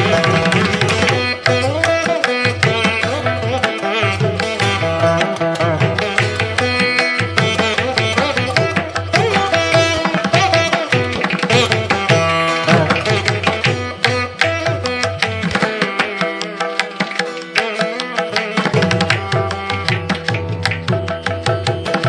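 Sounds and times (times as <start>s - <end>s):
hand drum rhythm: 0.0s - 22.0s
plucked string notes: 0.0s - 22.0s.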